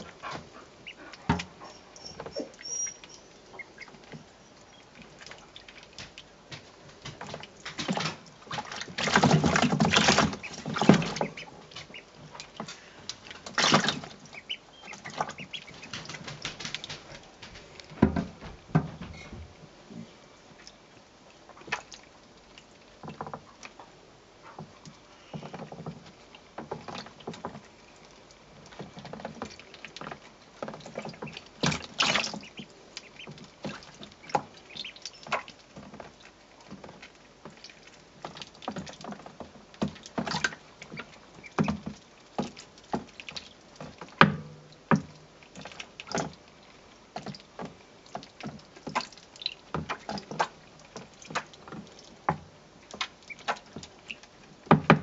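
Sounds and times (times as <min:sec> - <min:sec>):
ducklings splashing in water: 0:00.0 - 0:19.7, 0:20.5 - 0:55.0.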